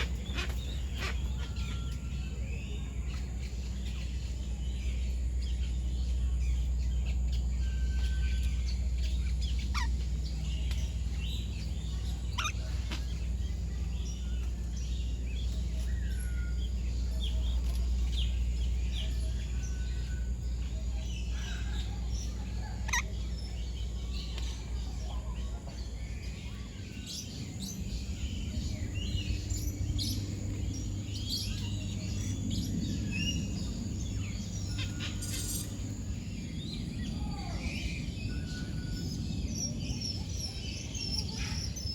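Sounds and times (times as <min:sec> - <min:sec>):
birds chirping and whistling: 0:00.0 - 0:41.9
steady low hum: 0:00.0 - 0:41.9.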